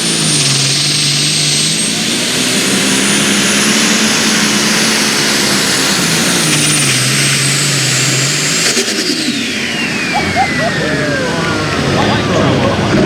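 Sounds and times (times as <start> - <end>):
tractor engine under load: 0.0 - 13.0
turbo whine: 0.0 - 13.0.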